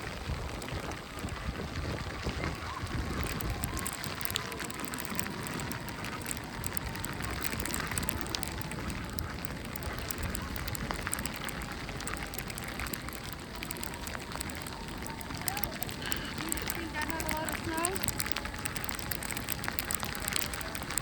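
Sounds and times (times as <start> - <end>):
patter of small crackles: 0.0 - 21.0
snowstorm noisy wash: 0.0 - 21.0.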